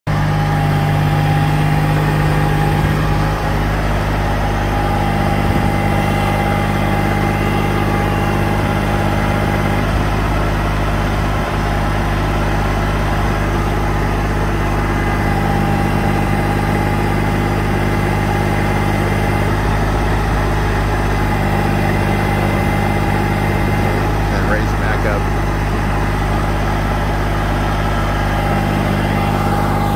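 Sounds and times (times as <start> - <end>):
tractor diesel engine idling: 0.1 - 29.9.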